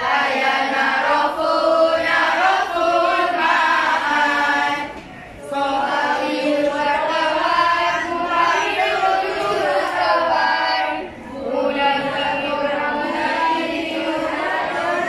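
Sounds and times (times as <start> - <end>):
children singing in unison: 0.0 - 15.0.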